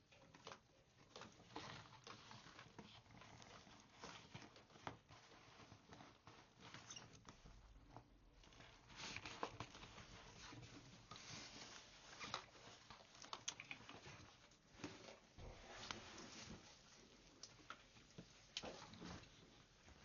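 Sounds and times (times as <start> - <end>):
clothing rustle: 0.0 - 20.0.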